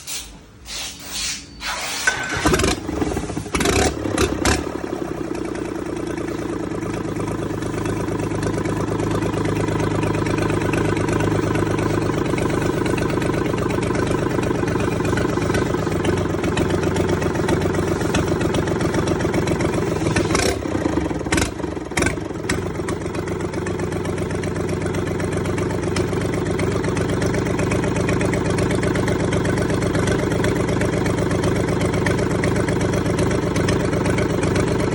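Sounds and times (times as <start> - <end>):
diesel engine starting and running: 0.0 - 34.9.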